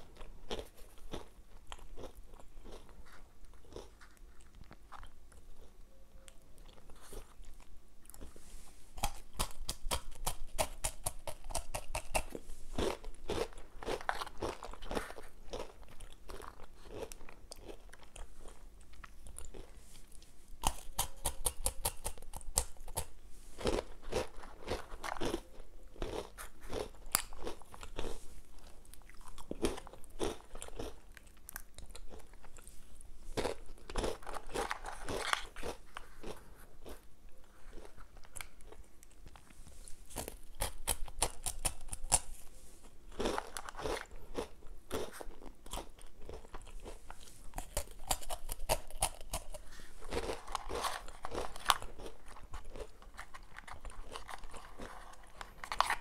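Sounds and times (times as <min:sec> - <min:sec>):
crunching and chewing breadsticks: 0:00.0 - 0:56.0.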